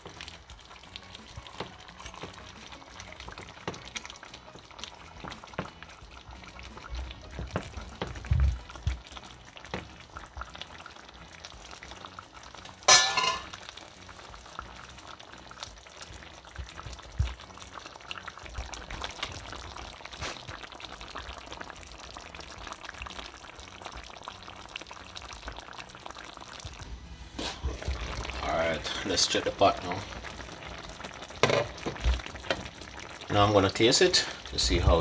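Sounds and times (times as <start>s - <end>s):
food simmering in a frying pan: 0.0s - 35.0s.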